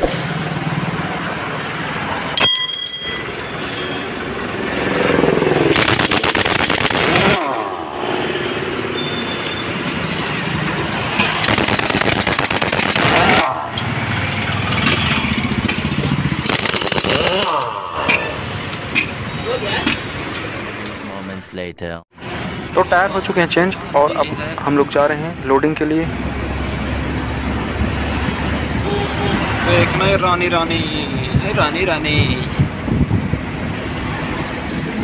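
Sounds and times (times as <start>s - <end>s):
passing highway traffic: 0.0s - 35.0s.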